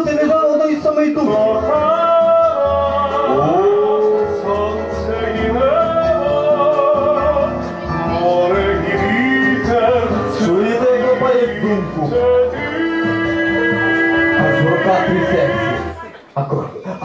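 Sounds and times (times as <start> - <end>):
instrumental backing with bass: 0.0 - 16.0
person singing: 0.0 - 16.1.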